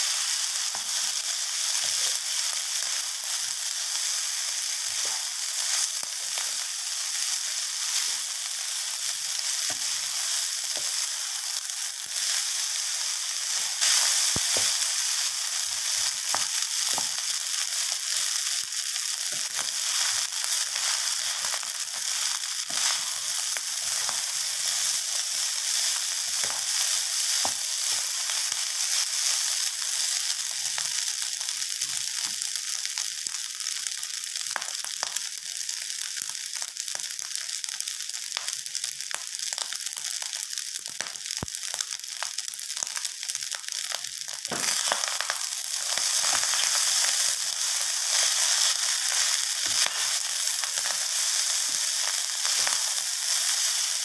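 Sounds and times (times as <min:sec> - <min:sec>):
rice sizzling in a wok: 0:00.0 - 0:54.0.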